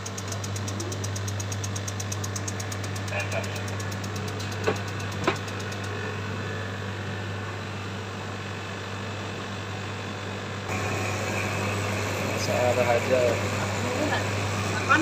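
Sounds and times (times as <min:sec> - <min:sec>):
tumble dryer running: 0:00.0 - 0:15.0.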